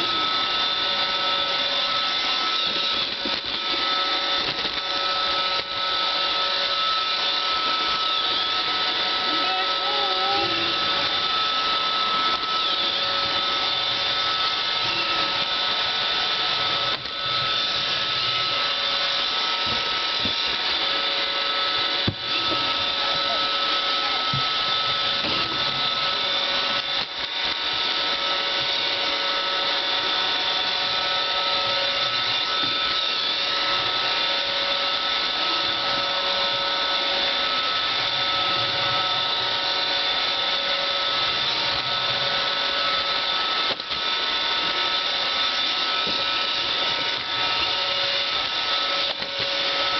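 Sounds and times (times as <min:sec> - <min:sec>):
robot vacuum motor whine: 0:00.0 - 0:49.9.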